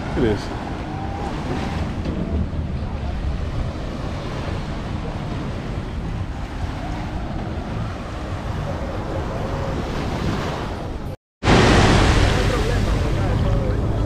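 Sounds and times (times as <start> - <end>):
small waves washing onto beach: 0.0 - 14.0
wind rumbling on microphone: 0.0 - 14.0.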